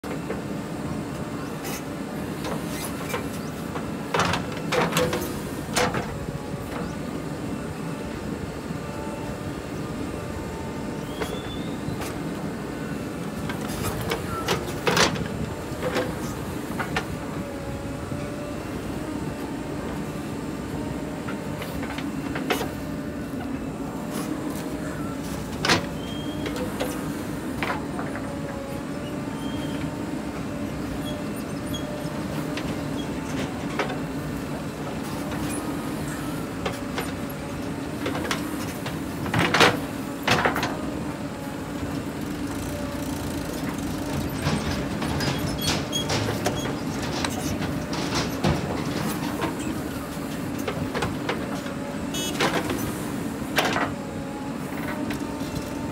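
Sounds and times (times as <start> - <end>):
backhoe diesel engine running: 0.0 - 55.9.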